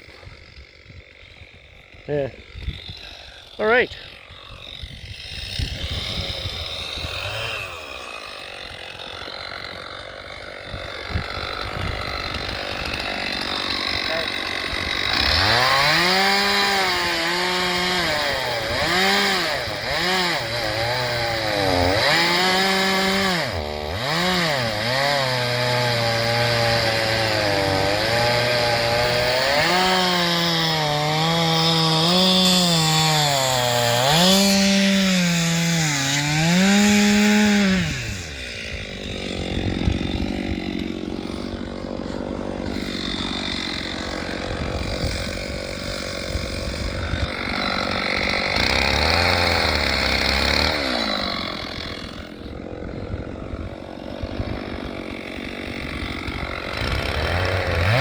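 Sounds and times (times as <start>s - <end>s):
chainsaw cutting logs: 0.0s - 58.0s.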